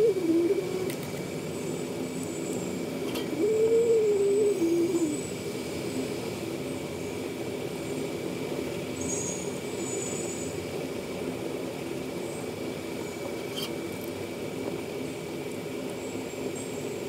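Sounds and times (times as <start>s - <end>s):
hot air station whirring: 0.0s - 17.0s.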